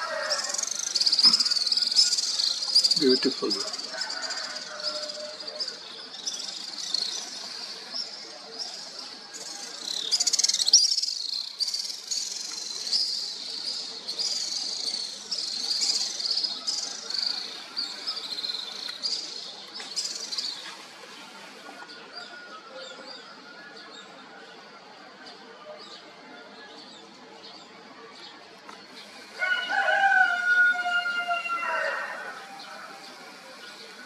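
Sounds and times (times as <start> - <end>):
songbirds chirping and trilling: 0.0 - 34.0.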